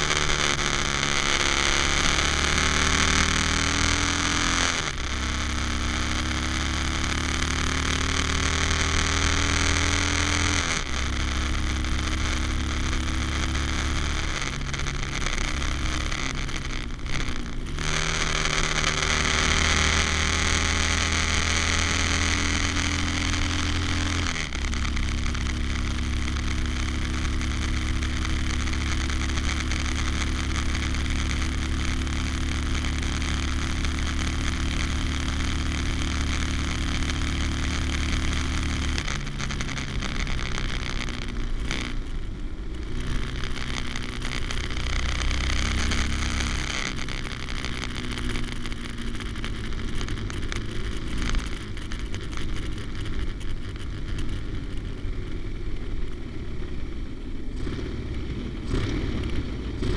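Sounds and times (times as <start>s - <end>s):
motorcycle engine cruising: 0.0s - 59.9s
wind and road noise: 0.0s - 59.9s.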